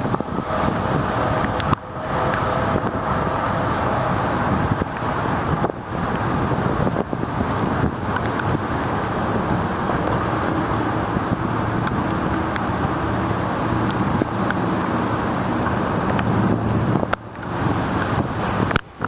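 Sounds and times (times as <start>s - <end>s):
car traffic on wet streets: 0.0s - 19.0s
wind on microphone: 0.0s - 19.0s.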